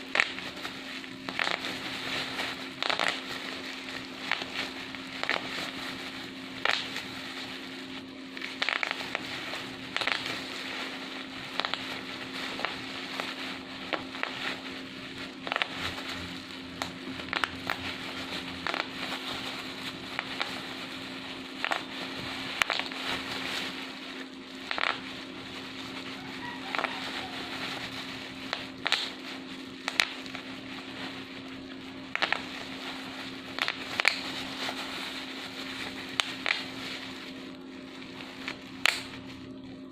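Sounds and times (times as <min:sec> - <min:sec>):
bubble wrap crackling and popping: 0:00.0 - 0:39.9.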